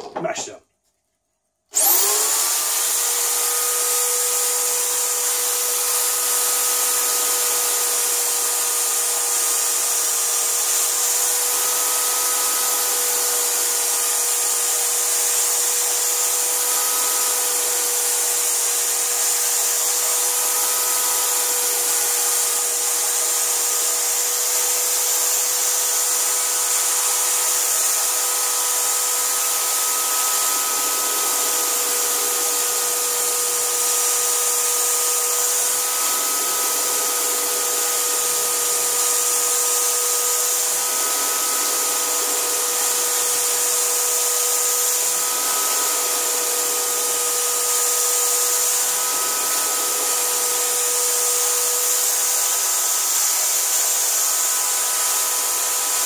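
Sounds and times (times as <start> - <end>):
electric drill whining: 1.7 - 56.0.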